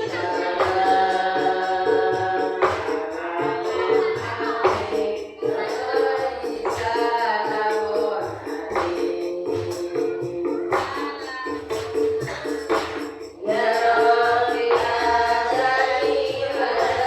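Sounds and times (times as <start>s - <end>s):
frame drums beating: 0.0s - 17.0s.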